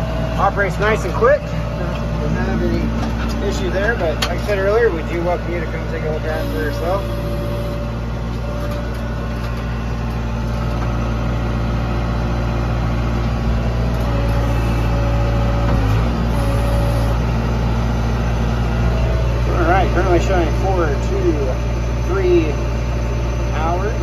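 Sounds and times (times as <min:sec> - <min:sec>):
diesel engine running: 0:00.0 - 0:24.0
hydraulic whine: 0:00.0 - 0:24.0.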